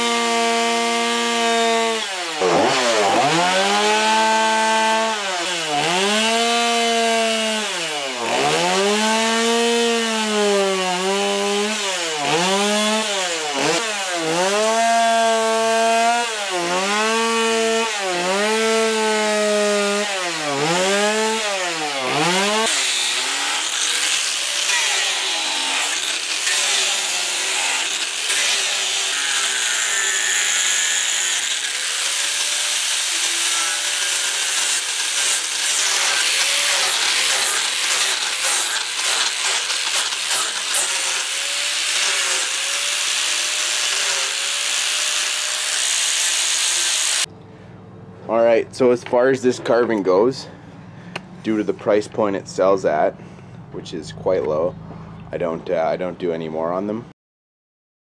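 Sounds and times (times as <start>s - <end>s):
angle grinder grinding wood: 0.0s - 47.3s
chainsaw cutting wood: 0.0s - 47.3s.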